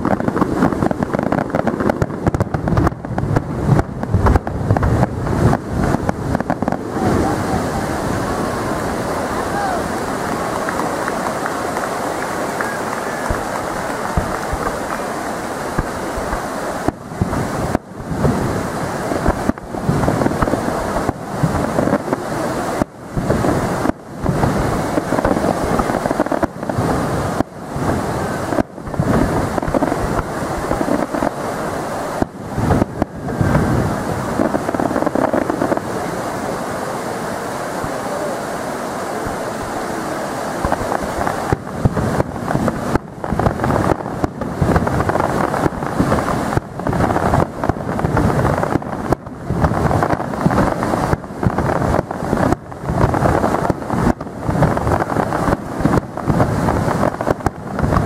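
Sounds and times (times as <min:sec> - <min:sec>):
muffled firework booms: 0:00.0 - 0:38.4, 0:40.5 - 0:58.0
continuous dull rumble: 0:00.0 - 0:58.0.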